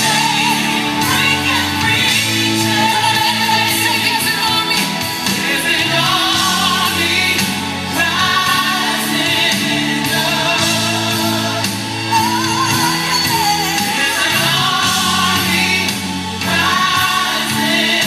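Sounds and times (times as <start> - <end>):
choir singing: 0.0 - 18.0
person singing gospel: 0.0 - 18.0.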